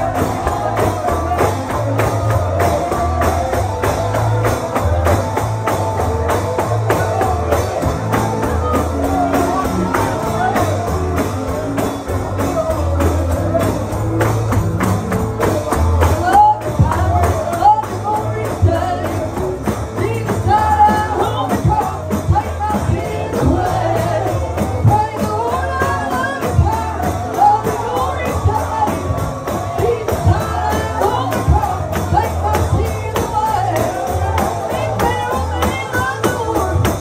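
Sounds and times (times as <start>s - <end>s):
gospel voices singing: 0.0s - 14.1s, 15.5s - 37.0s
tambourine beat: 0.0s - 37.0s.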